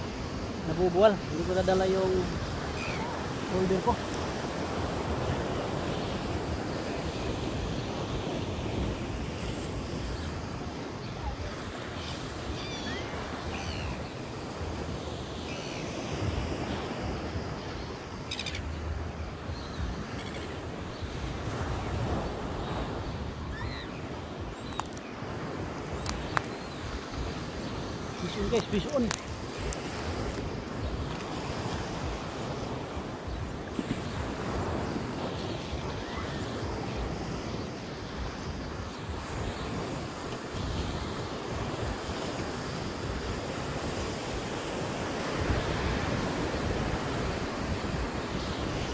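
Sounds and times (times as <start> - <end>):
ocean surf breaking on beach: 0.0 - 48.9
wind gusting on microphone: 0.0 - 48.9.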